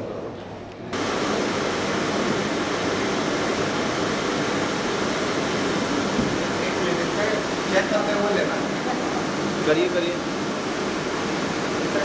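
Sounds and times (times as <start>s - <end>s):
air curtain blowing: 1.0s - 12.0s.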